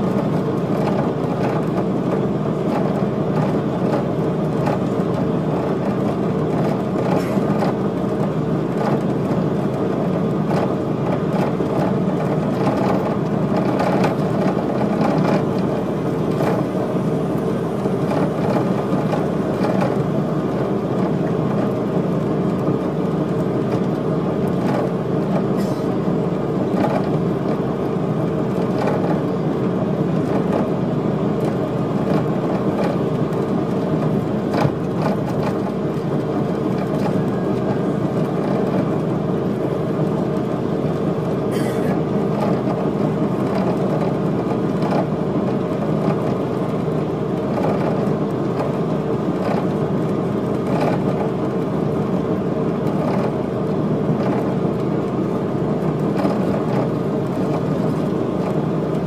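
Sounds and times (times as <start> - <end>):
engine and tyre drone: 0.0 - 59.0.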